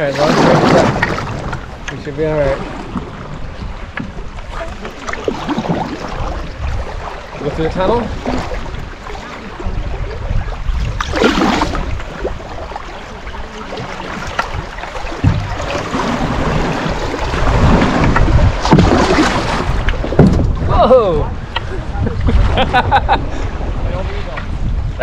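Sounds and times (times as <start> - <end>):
water splashing along canoe hull: 0.0 - 25.0
wind rumbling on microphone: 0.0 - 25.0.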